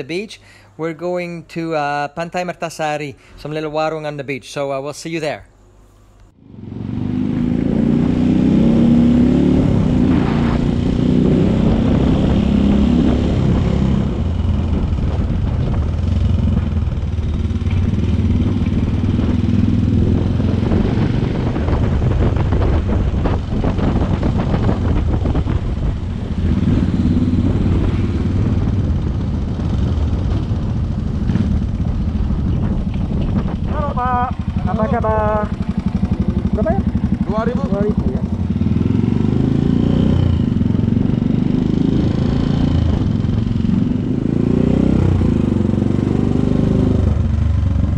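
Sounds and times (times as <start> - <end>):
motorcycle engine running: 6.4 - 47.9.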